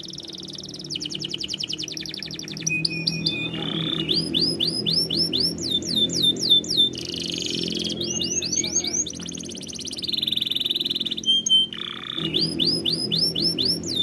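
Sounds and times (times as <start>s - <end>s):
canary singing: 0.0s - 14.0s.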